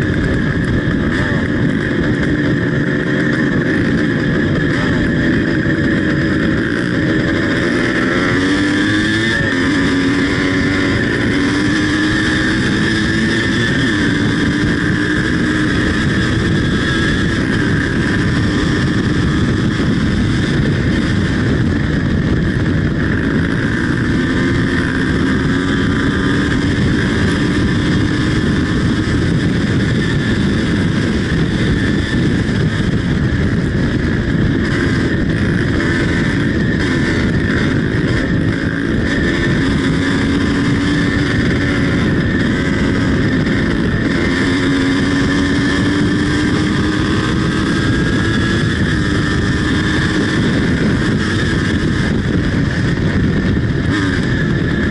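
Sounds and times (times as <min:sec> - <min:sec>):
two-stroke engine at high revs: 0:00.0 - 0:54.9.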